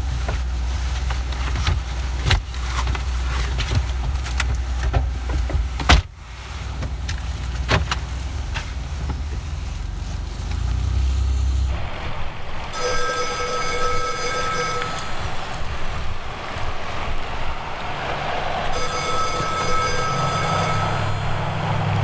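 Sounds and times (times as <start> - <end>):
car engine hum from cabin: 0.0 - 22.0.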